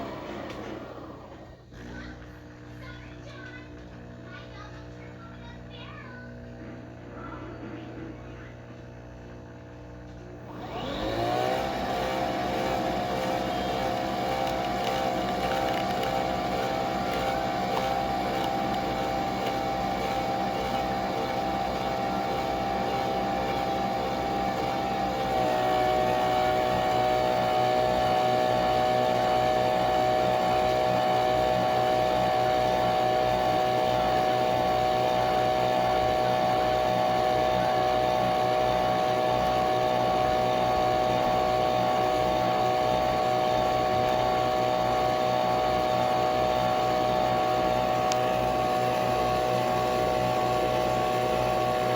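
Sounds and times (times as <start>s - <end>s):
coffee machine motor whine: 0.0s - 51.9s.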